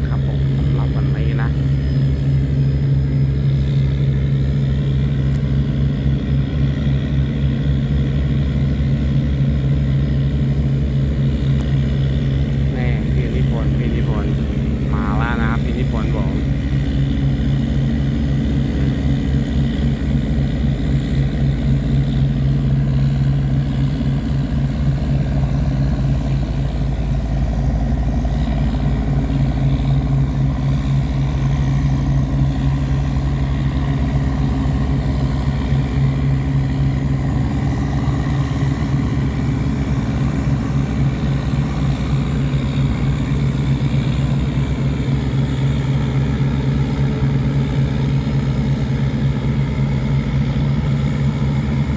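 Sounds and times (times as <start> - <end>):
tugboat engine droning: 0.0 - 51.9.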